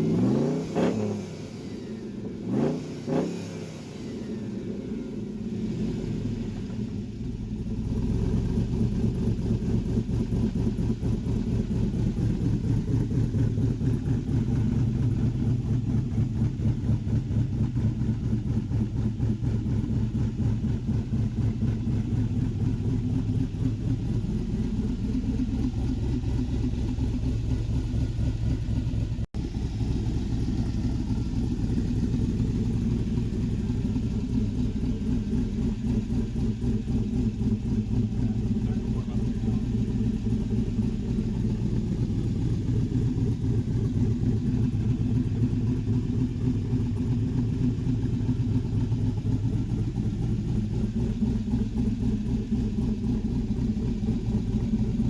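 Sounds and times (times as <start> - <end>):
engine idling: 3.6 - 55.0.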